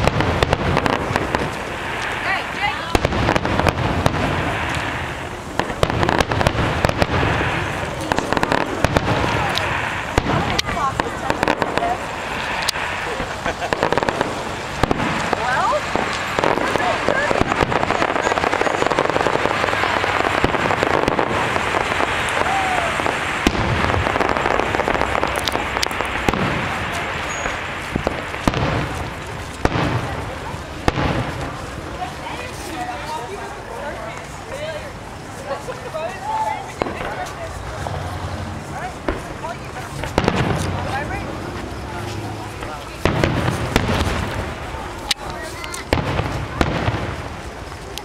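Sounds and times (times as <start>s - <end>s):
crackling reports: 0.0s - 48.0s
fireworks bursting: 0.0s - 48.0s.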